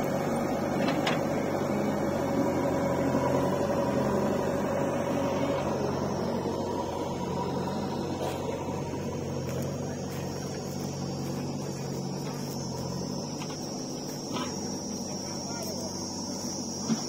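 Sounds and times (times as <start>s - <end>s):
diesel tractor engine idling: 0.0s - 17.0s
thin high whine: 3.3s - 17.0s.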